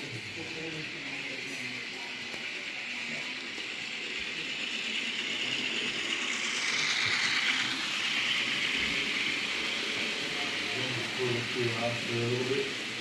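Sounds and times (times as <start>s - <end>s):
model train motor whir: 0.0s - 13.0s.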